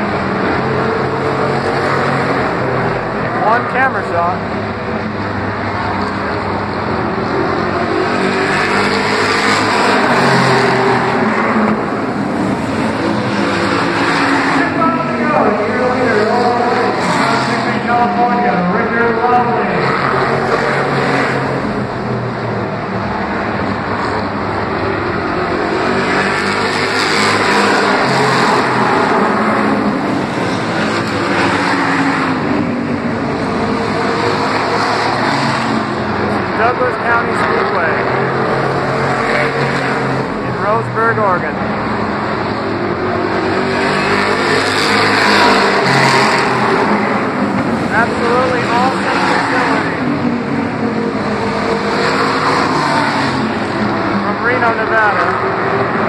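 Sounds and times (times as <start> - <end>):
race car engines passing: 0.0 - 56.0.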